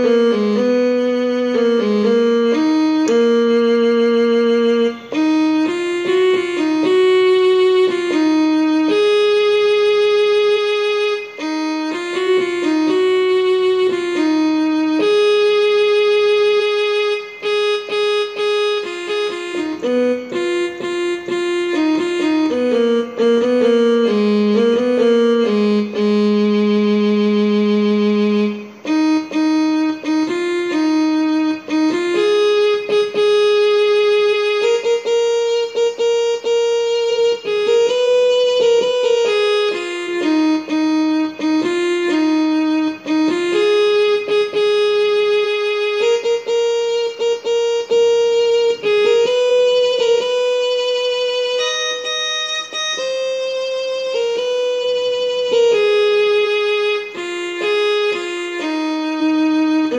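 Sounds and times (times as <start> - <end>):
electronic keyboard melody: 0.0 - 59.9.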